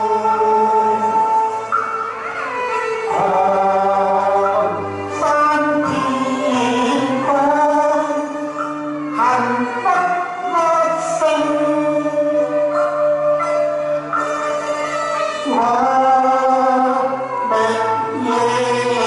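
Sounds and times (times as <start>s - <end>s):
man singing into microphone: 0.0s - 1.7s, 3.1s - 13.6s, 15.2s - 19.0s
instrumental accompaniment: 0.0s - 19.0s.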